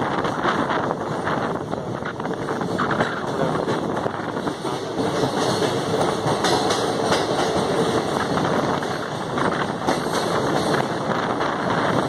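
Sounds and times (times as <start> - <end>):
train running noise: 0.0 - 12.0
train wheels clattering: 0.0 - 12.0.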